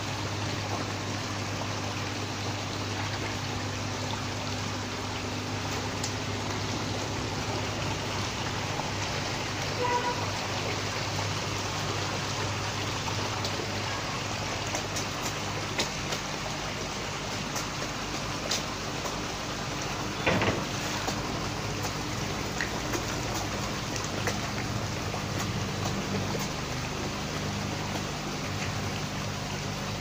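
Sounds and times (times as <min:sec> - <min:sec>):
low pump hum: 0:00.0 - 0:30.0
water splashing and churning: 0:00.0 - 0:30.0.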